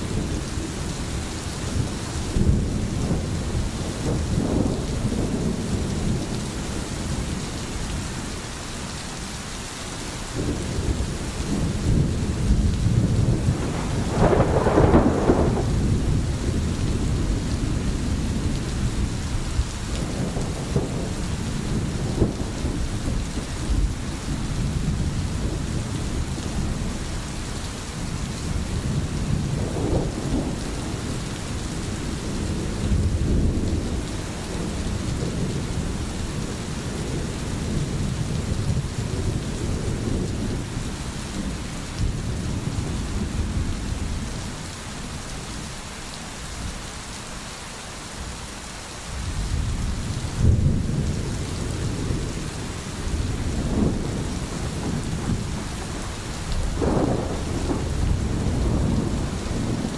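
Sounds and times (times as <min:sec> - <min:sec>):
rolling thunder rumbles: 0:00.0 - 0:08.5, 0:10.3 - 0:45.7, 0:49.1 - 0:59.9
steady rain falling: 0:00.0 - 0:59.9.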